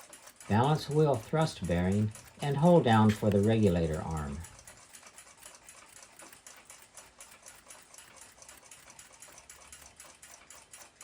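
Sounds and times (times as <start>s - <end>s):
fast clock ticking: 0.0s - 11.0s.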